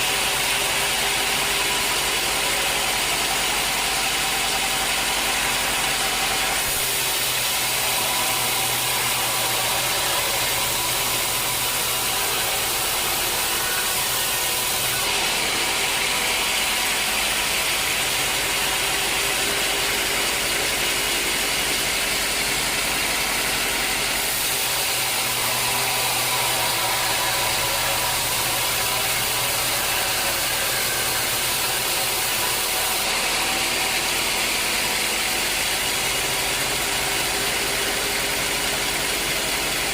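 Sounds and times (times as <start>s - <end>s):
sawmill machinery sawing a log: 0.0s - 39.9s.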